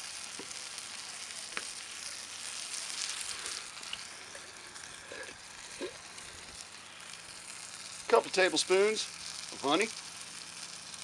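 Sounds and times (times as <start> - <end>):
food sizzling in skillet: 0.0 - 11.0.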